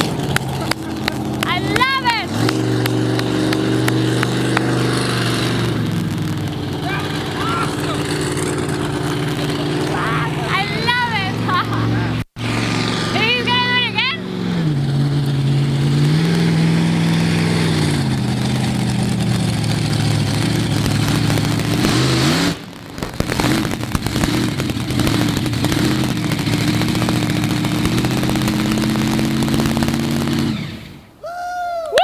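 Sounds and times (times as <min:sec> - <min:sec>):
cars crunching: 0:00.0 - 0:31.2
monster truck engine revving: 0:00.0 - 0:31.2.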